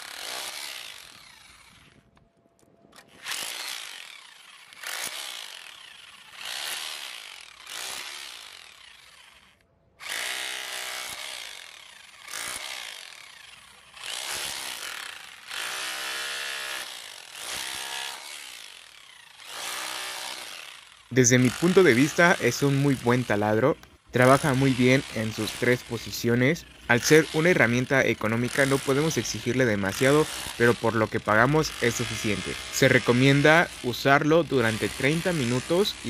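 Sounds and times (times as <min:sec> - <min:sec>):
rotary hammer chiselling concrete: 0:00.0 - 0:02.0, 0:03.0 - 0:36.0.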